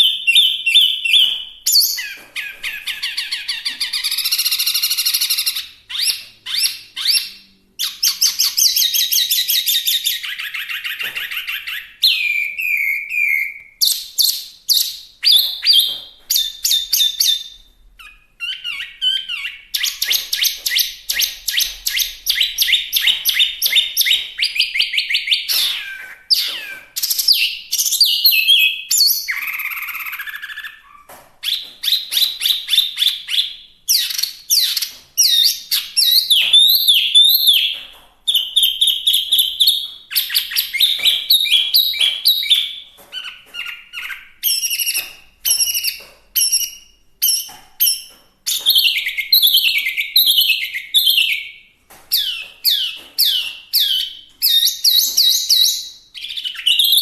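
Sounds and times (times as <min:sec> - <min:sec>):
bird singing whistled notes: 0:00.0 - 0:42.8, 0:43.6 - 0:57.0.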